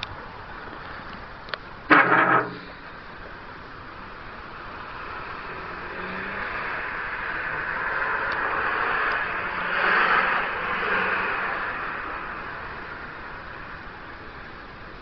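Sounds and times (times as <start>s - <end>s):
car approaching: 0.0s - 15.0s.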